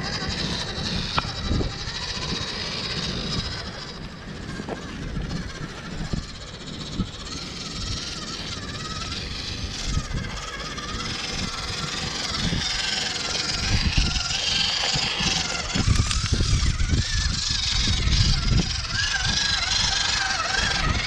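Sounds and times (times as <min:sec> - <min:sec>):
toy truck motor whining: 0:00.0 - 0:21.0.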